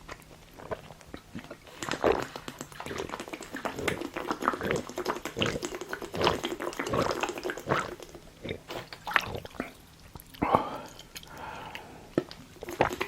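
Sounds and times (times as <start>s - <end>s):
mouth chewing wetly: 0.0s - 13.0s.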